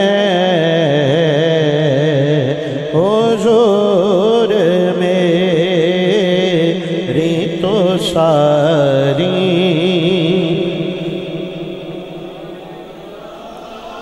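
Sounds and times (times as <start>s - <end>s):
man singing through loudspeaker: 0.0s - 14.0s.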